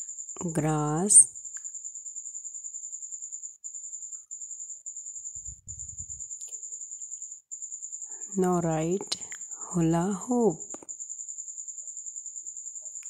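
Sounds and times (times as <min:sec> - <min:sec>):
high pulsing insect trill: 0:00.0 - 0:13.0.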